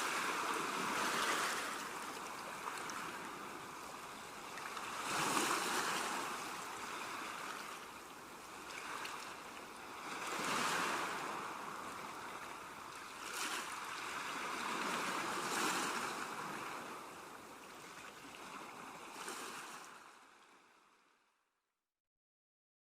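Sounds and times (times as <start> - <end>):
small waves washing ashore: 0.0 - 20.9.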